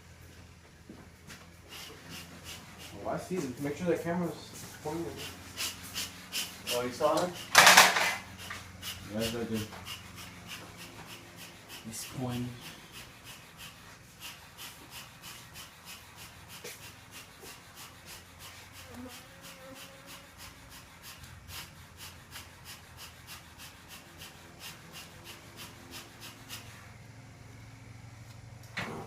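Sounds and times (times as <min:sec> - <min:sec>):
hand tool rasping strokes: 0:01.6 - 0:27.0.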